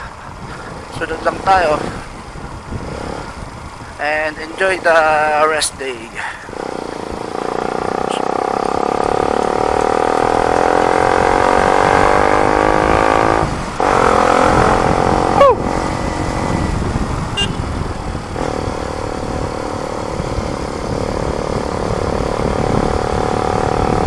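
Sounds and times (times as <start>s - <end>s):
motorcycle accelerating: 0.0s - 24.0s.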